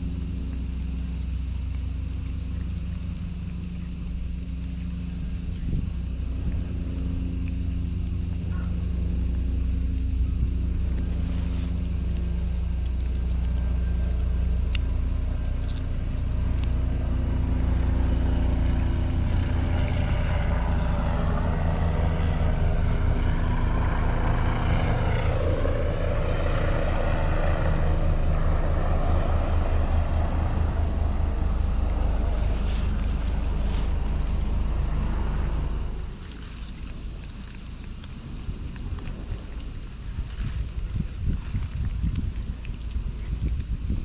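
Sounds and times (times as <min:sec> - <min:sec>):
steady high hiss: 0:00.0 - 0:41.4
motor running: 0:00.0 - 0:44.0.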